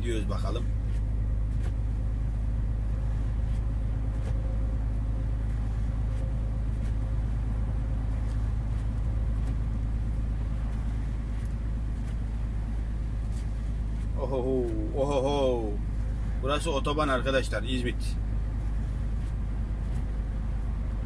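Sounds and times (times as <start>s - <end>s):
truck engine drone inside cab: 0.0s - 21.0s.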